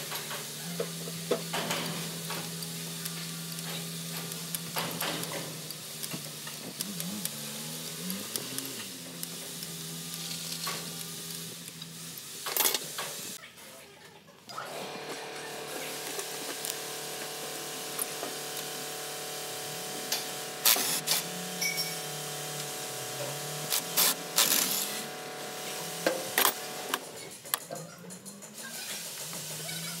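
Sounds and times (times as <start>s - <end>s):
whirring motor hum: 0.0s - 13.4s, 14.5s - 30.0s.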